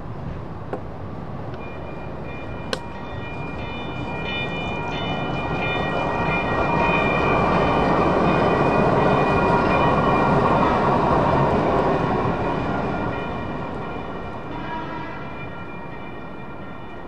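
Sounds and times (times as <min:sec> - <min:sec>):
train rumble: 0:00.0 - 0:17.0
crossing bell dinging: 0:01.6 - 0:17.0.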